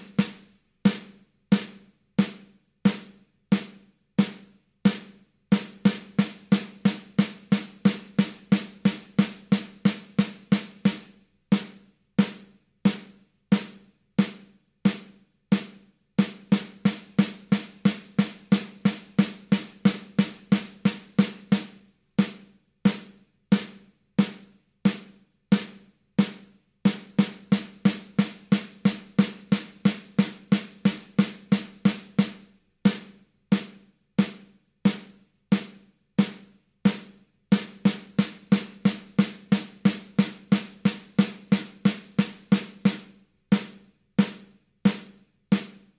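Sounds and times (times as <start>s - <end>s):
snare drum strokes: 0.0s - 45.9s.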